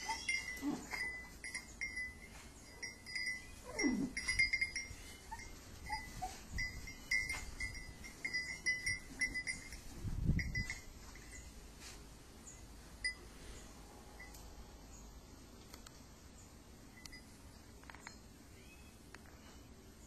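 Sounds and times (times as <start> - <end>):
collar bell tinkling: 0.0 - 14.4, 16.9 - 18.7.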